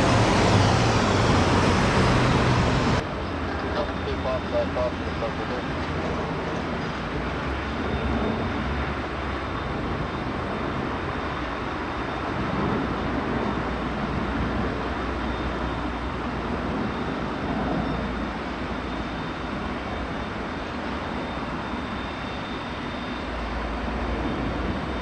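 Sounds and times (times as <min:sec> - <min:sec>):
vehicle rumble and hiss: 0:00.0 - 0:25.0.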